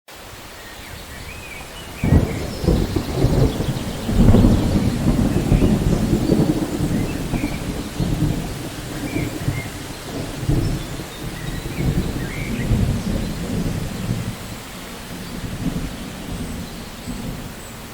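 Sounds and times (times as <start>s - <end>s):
steady rain: 0.1s - 17.9s
thunder rumbling: 0.9s - 17.9s.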